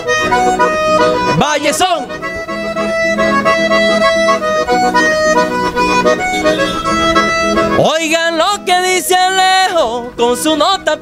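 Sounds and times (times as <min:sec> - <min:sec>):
button accordion melody: 0:00.0 - 0:11.0
electric guitar accompanying: 0:00.0 - 0:11.0.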